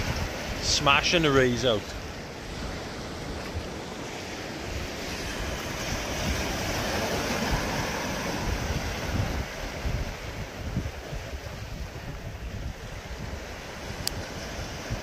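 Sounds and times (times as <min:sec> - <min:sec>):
surf washing over rocky shore: 0:00.0 - 0:15.0
wind buffeting microphone: 0:00.0 - 0:15.0.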